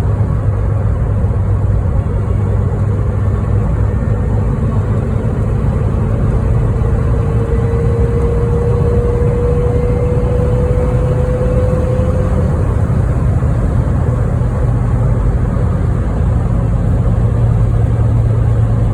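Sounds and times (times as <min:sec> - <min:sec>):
clear whine: 0:00.0 - 0:18.9
vehicle cabin drone: 0:00.0 - 0:18.9.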